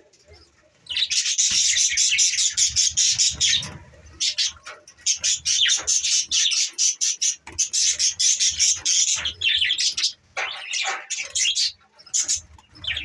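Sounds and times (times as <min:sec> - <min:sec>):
budgerigars chattering and warbling: 0:00.2 - 0:13.0.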